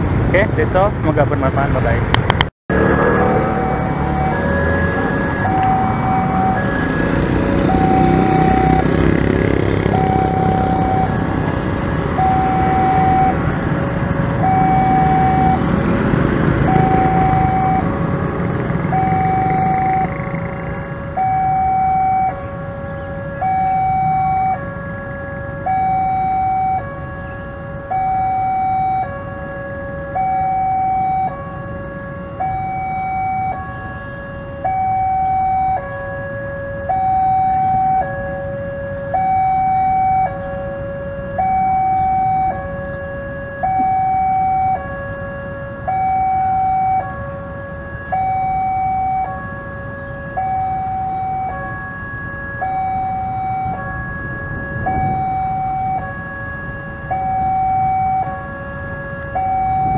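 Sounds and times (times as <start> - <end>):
low traffic rumble: 0.0 - 59.9
level crossing two-tone alarm: 3.1 - 9.0, 9.9 - 11.3, 12.1 - 13.5, 14.3 - 15.8, 16.6 - 18.1, 18.9 - 20.2, 21.1 - 59.9.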